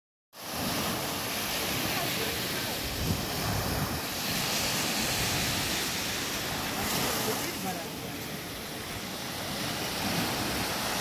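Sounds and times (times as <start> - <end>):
waves washing up beach: 0.4 - 11.0
wind rumbling on microphone: 0.5 - 11.0.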